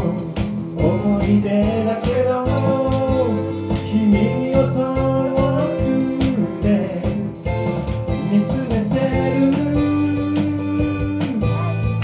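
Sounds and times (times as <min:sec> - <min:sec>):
bass: 0:00.0 - 0:12.0
guitar: 0:00.0 - 0:12.0
person singing: 0:00.0 - 0:12.0
steady drum beat: 0:00.0 - 0:12.0.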